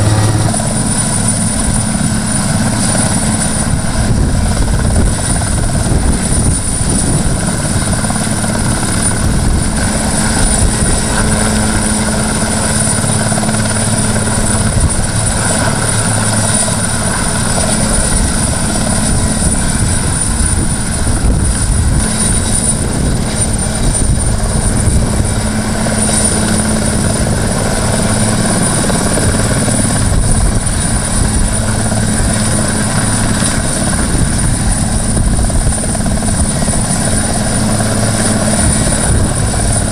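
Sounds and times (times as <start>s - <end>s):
helicopter rotor: 0.0s - 39.9s
high turbine whine: 0.0s - 39.9s.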